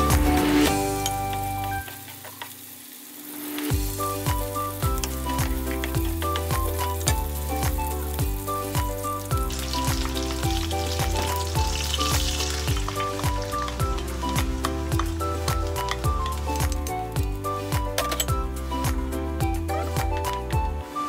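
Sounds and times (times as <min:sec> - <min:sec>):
background music with steady beat: 0:00.0 - 0:02.0, 0:03.7 - 0:21.0
food sizzling in frying pan: 0:00.0 - 0:17.8.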